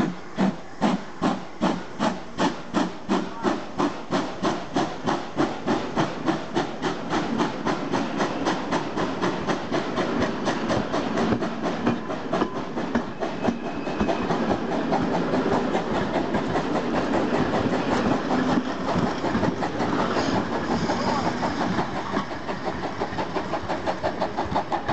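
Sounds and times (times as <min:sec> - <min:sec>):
train wheels clicking over rail joints: 0:00.0 - 0:24.9.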